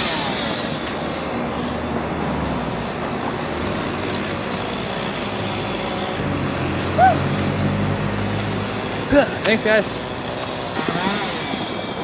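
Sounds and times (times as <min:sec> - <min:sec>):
street noise: 0:00.0 - 0:12.0
truck engine running: 0:00.0 - 0:12.0.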